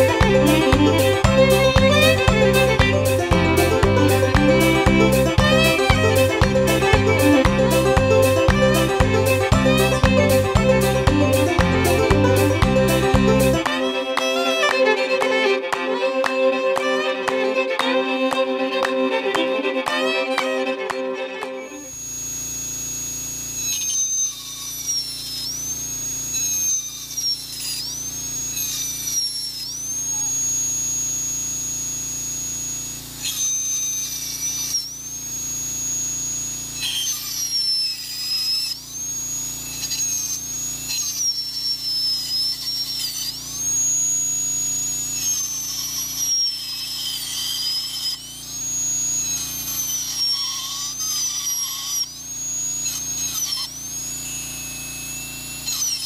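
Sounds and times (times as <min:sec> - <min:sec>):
dental drill whining on metal: 0:00.0 - 0:56.0.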